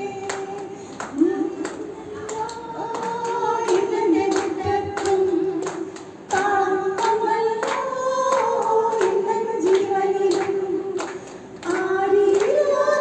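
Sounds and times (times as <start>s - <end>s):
group of people singing: 0.0s - 13.0s
clapping in time: 0.2s - 12.6s.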